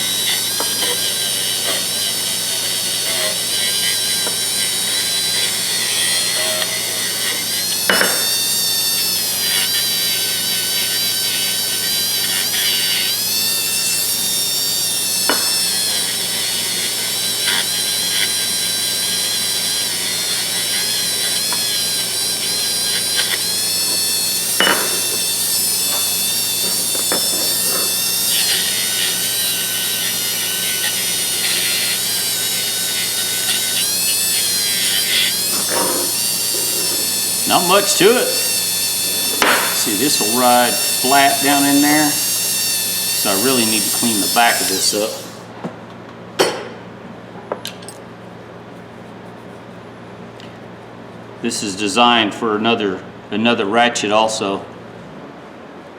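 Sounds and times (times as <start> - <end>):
high-speed power tool whine: 0.0 - 45.6.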